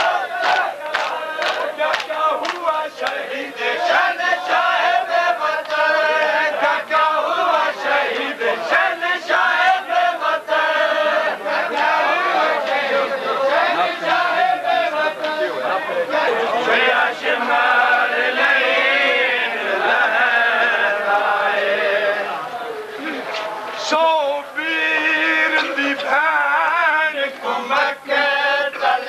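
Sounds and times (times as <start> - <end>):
men chanting in unison: 0.0 - 22.7, 23.8 - 29.0.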